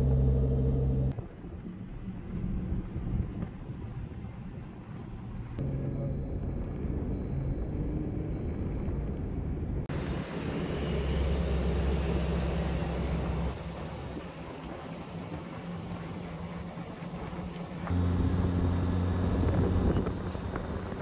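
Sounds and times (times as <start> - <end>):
low engine drone: 0.0 - 21.0
vehicle engine and tyre noise: 0.0 - 21.0.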